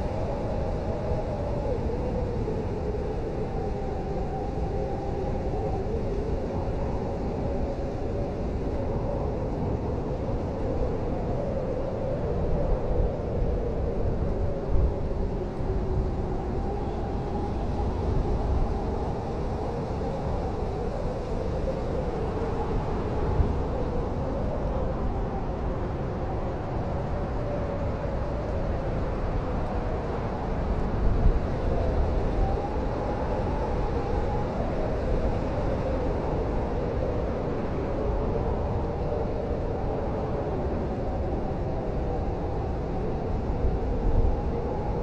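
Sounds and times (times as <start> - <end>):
blizzard wind blowing: 0.0 - 45.0.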